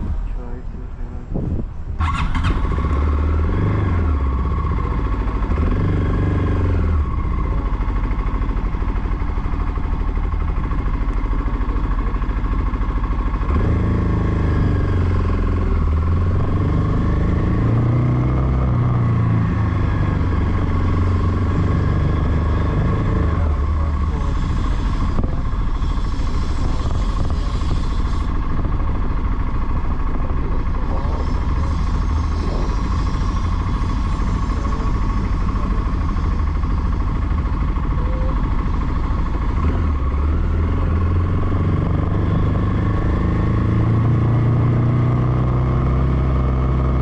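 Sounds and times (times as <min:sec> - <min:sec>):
motorcycle engine revving: 0:01.4 - 0:47.0.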